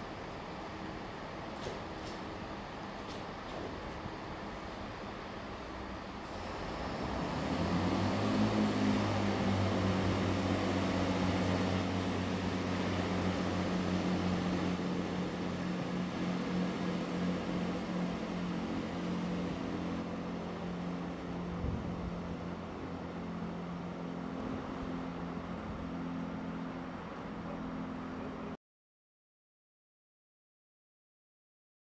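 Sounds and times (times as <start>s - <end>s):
diesel train engines pulling away: 0.0s - 28.5s.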